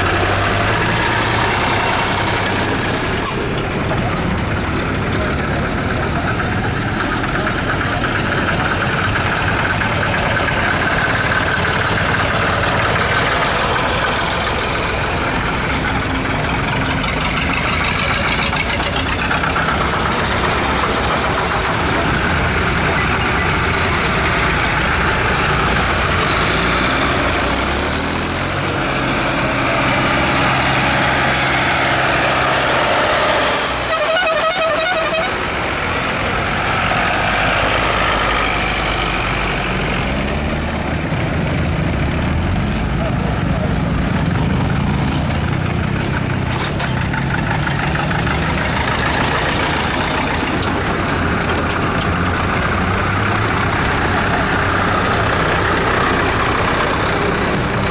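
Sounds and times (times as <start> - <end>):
tractor engines running: 0.0 - 57.9.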